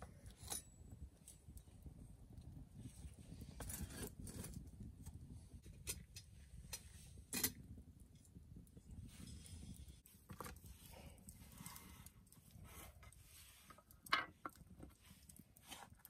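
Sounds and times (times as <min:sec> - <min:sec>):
campfire crackling: 0:00.1 - 0:16.0.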